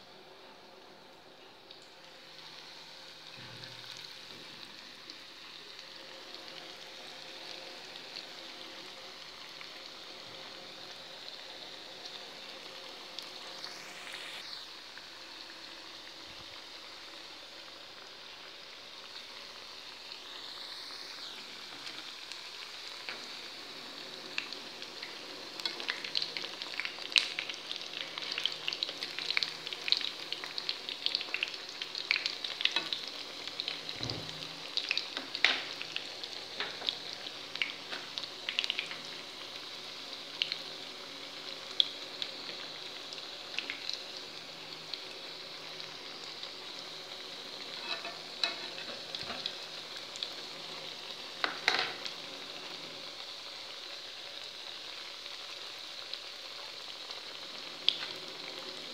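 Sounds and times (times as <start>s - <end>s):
dough deep-frying in oil: 0.0s - 58.9s.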